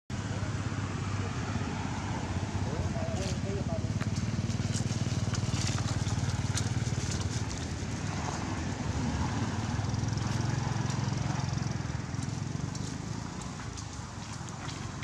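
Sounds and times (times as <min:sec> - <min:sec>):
small engine running: 0:00.3 - 0:13.9.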